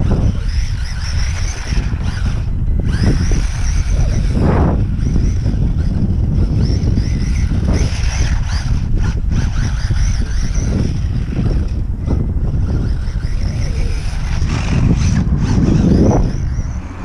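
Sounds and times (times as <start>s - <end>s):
rc truck motor whine: 0.0s - 17.0s
wind buffeting microphone: 0.0s - 17.0s.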